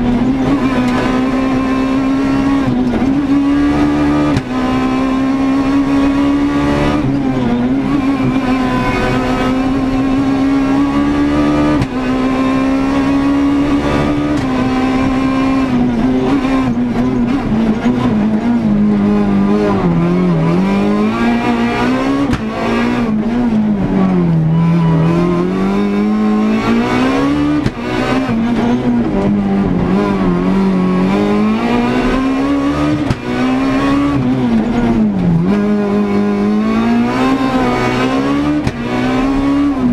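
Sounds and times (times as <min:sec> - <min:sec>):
rally car engine at high revs: 0:00.0 - 0:39.9.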